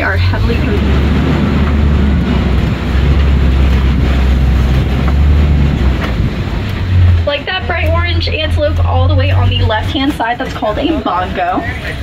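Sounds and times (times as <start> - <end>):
low engine drone: 0.0 - 12.0
rumbling road noise: 0.0 - 12.0.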